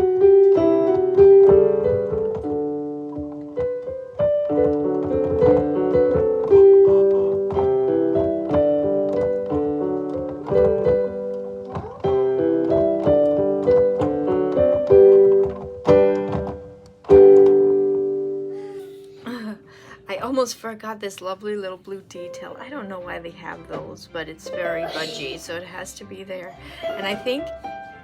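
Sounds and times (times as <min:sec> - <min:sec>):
slow piano melody: 0:00.0 - 0:20.2, 0:22.2 - 0:28.0.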